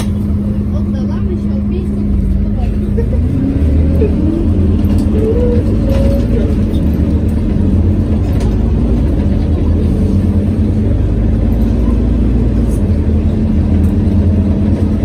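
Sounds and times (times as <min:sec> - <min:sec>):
low rumble of bus: 0:00.0 - 0:15.0.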